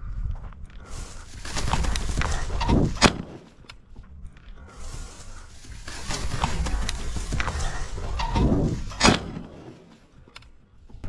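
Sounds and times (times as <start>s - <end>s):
footsteps crunching through grass and snow: 0.0s - 11.0s.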